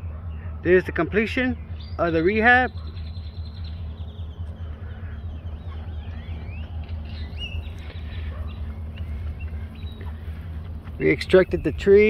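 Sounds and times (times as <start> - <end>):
birds chirping and calling: 0.0 - 12.0
steady low rumble: 0.0 - 12.0.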